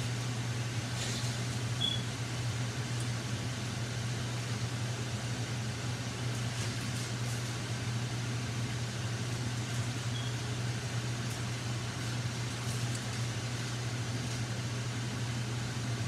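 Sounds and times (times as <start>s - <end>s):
range hood fan running: 0.0s - 16.0s.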